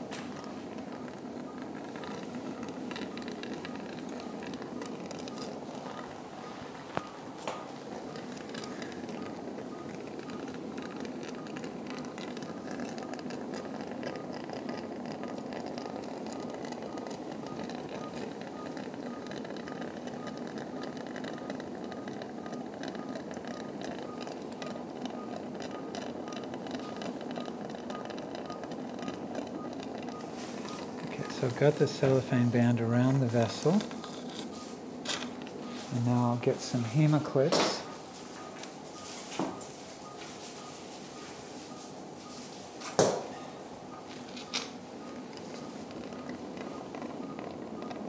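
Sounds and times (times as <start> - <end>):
patient monitor beeping: 0.0 - 48.0.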